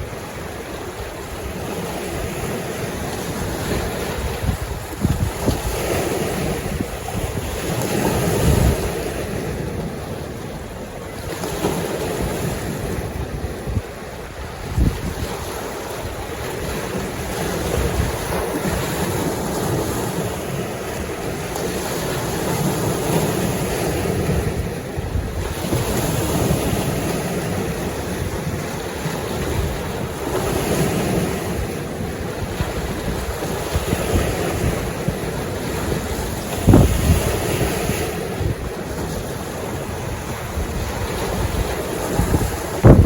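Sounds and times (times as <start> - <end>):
waves washing against shore: 0.0 - 43.0
wind buffeting microphone: 0.0 - 43.0.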